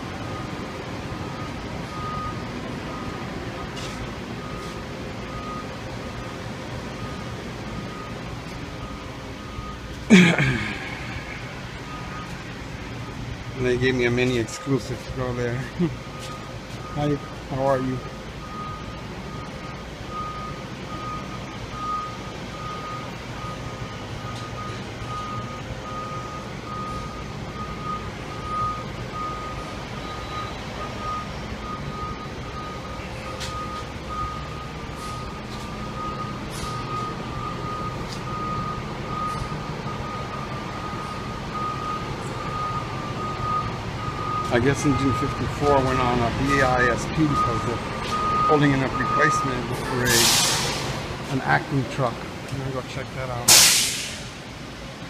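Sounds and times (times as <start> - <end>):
high-pitched electronic warning beep: 0.2 - 10.0, 10.6 - 50.8.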